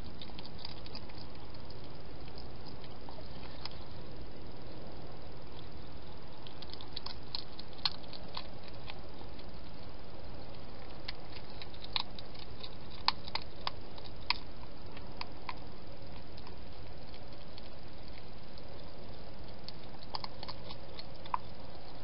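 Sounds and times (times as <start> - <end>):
hedgehog chewing crunchily: 0.0 - 22.0
steady hiss: 0.0 - 22.0.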